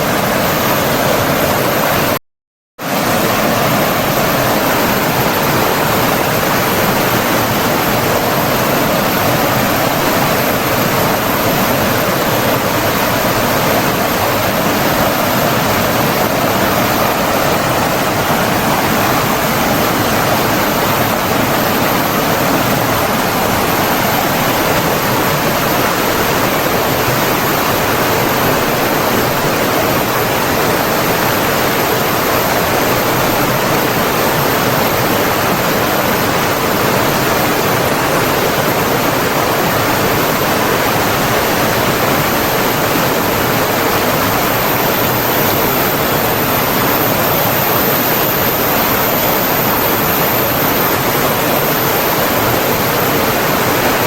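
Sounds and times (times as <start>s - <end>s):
water rushing: 0.0s - 2.2s, 2.8s - 54.0s.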